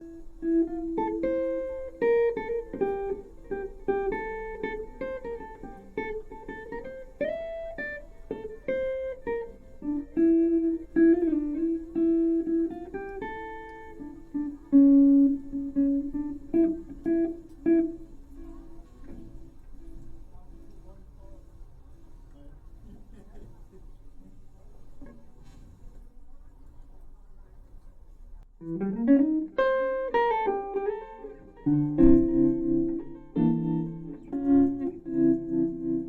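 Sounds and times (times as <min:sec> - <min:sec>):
jazz guitar through amplifier: 0:00.0 - 0:26.0, 0:28.4 - 0:36.0.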